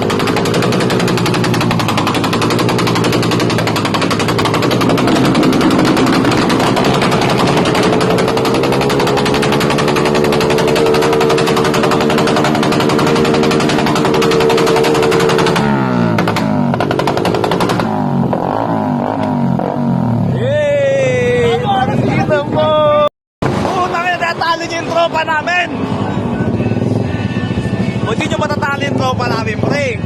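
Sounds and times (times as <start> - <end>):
motorcycle engine revving high: 0.0 - 22.4, 23.4 - 30.0.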